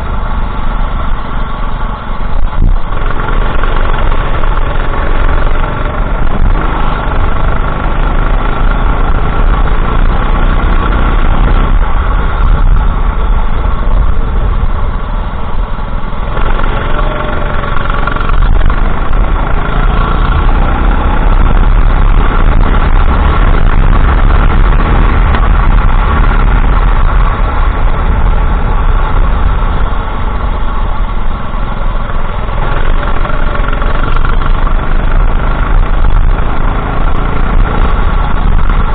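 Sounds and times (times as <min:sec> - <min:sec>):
racing kart engine revving: 0:02.8 - 0:12.7, 0:16.2 - 0:38.9.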